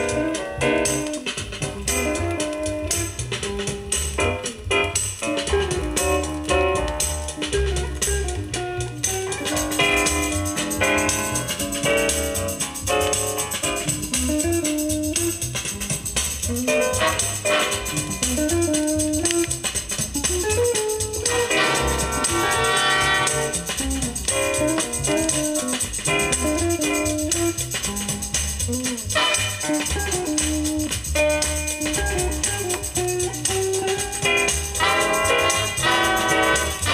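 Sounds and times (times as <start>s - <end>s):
guitar music with drum beat: 0.0s - 36.9s.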